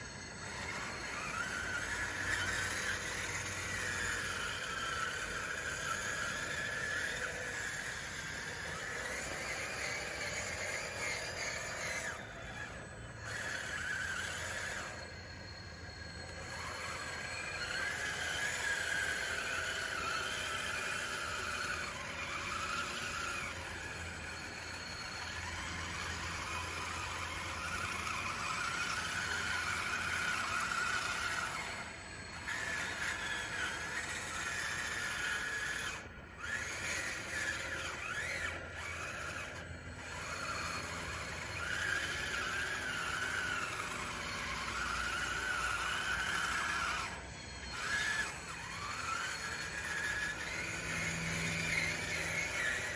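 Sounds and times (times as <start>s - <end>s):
toy bulldozer motors whining: 0.0s - 52.9s.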